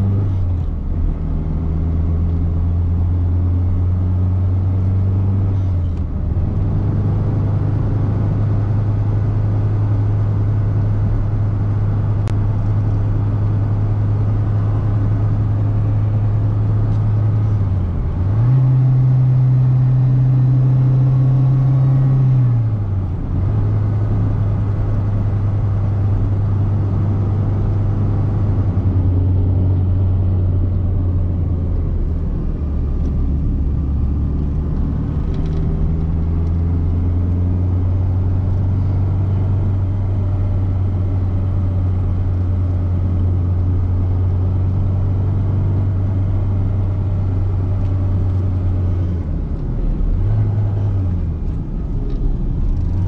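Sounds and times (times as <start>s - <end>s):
car engine running: 0.0s - 53.0s
road noise: 0.0s - 53.0s.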